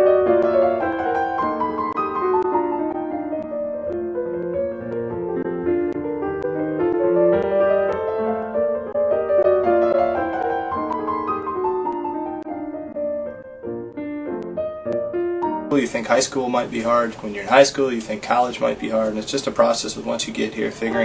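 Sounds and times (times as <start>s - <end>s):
background piano music: 0.0s - 17.1s, 20.6s - 21.0s.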